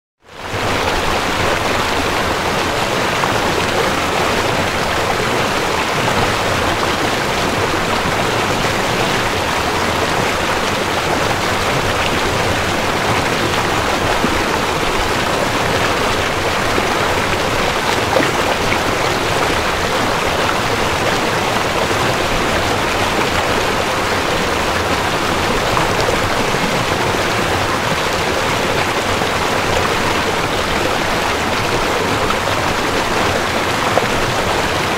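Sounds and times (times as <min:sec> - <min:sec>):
river running over stones: 0:00.4 - 0:34.9.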